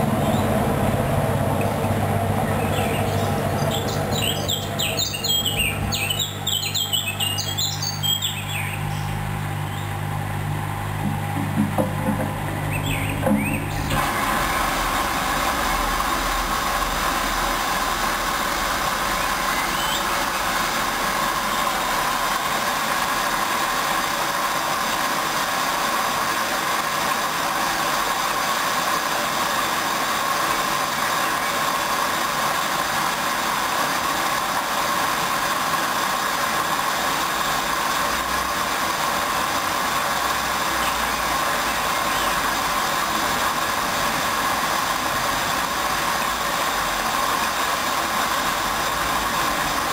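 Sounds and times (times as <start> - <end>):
washing machine running: 0.0 - 49.9.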